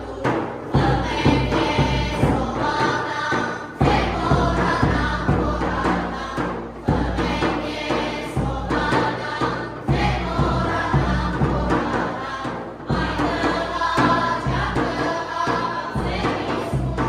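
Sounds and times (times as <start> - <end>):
group singing folk song: 0.0 - 17.0.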